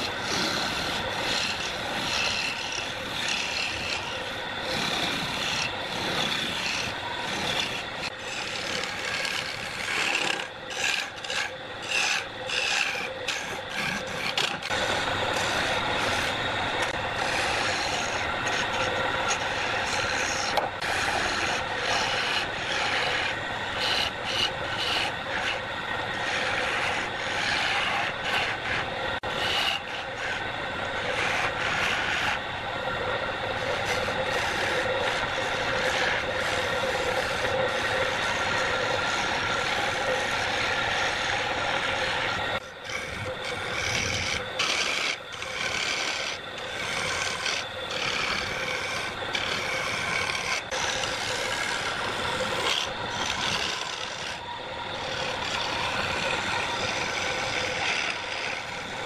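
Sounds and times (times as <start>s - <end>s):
lathe motor hum: 0.0s - 59.0s
lathe tool scraping wood: 0.0s - 59.0s.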